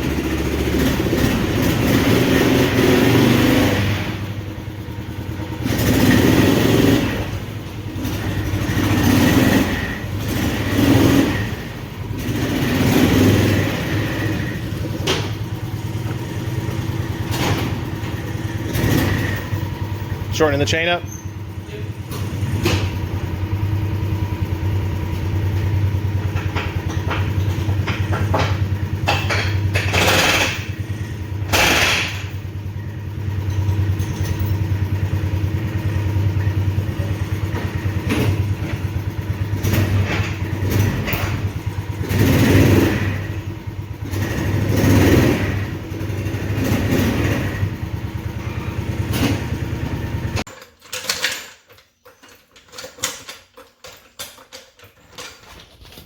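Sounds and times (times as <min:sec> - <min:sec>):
vehicle engine running: 0:00.0 - 0:50.5.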